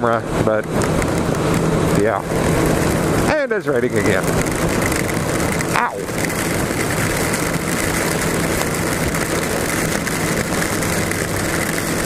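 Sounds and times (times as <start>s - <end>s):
motorcycle engine cruising: 0.0s - 12.0s
wind rush on microphone: 0.0s - 12.0s.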